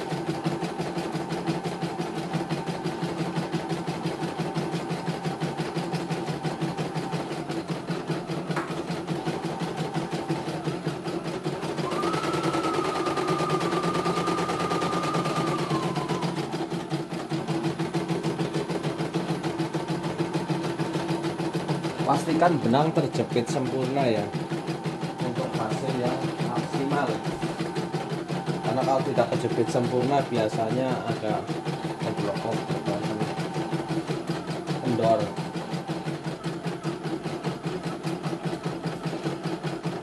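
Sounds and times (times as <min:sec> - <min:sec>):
embroidery machine needle stitching: 0:00.0 - 0:40.0
motor hum: 0:00.0 - 0:40.0.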